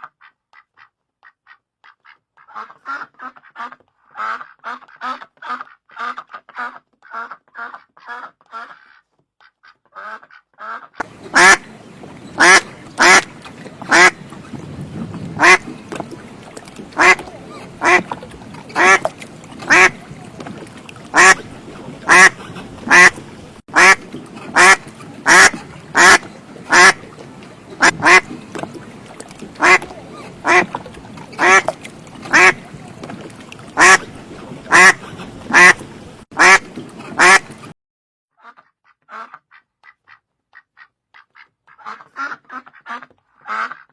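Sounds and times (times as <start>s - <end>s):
duck quacking: 0.1s - 14.5s, 15.4s - 33.1s, 33.7s - 37.6s, 38.4s - 43.9s.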